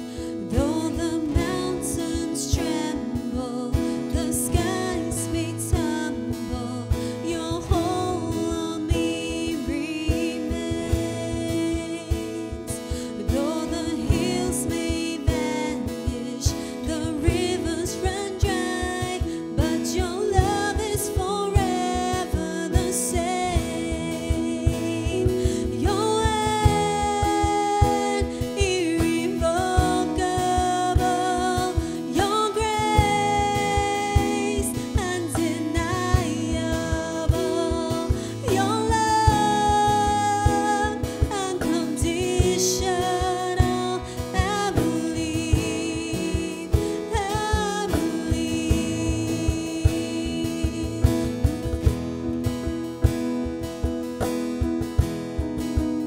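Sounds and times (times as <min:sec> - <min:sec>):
woman singing: 0:00.0 - 0:52.1
acoustic guitar: 0:00.0 - 0:56.0
cajon beat: 0:00.1 - 0:56.0.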